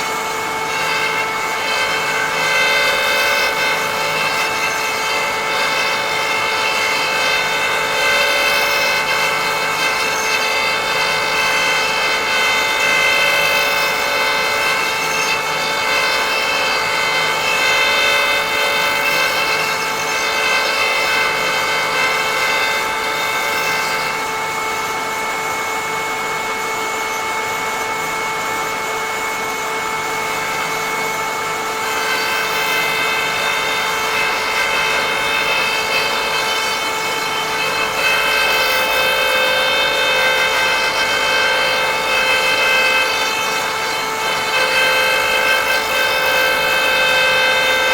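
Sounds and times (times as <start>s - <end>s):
power tool whining cutting wood: 0.0s - 47.9s.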